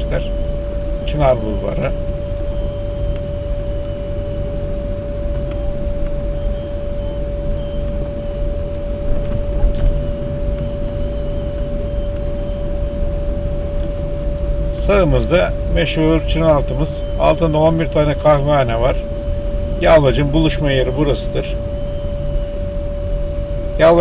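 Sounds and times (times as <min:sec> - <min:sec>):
high steady whine: 0:00.0 - 0:24.0
vehicle rumble: 0:00.0 - 0:24.0.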